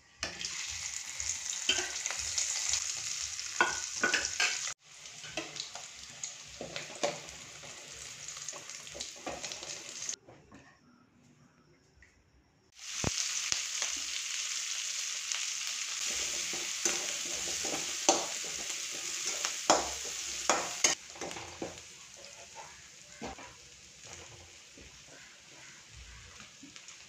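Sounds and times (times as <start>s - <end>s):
onions sizzling in oil: 0.0s - 10.2s, 12.7s - 27.0s.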